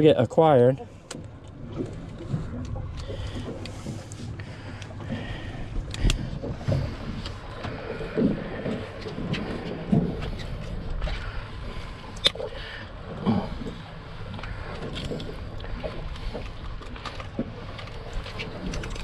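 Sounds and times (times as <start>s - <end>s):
boat engine idling: 0.1s - 19.0s.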